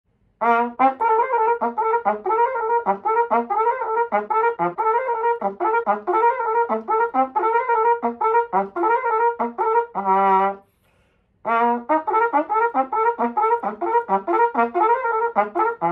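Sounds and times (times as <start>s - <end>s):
cornet playing short notes: 0.4s - 10.8s, 11.5s - 15.9s.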